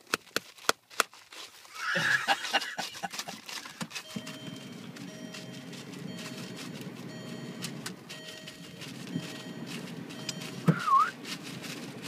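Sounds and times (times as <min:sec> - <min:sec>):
car hum: 0:02.0 - 0:12.0.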